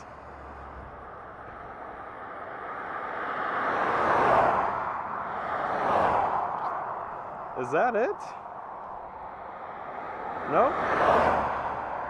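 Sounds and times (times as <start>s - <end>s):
vehicles passing on highway: 0.0s - 12.0s.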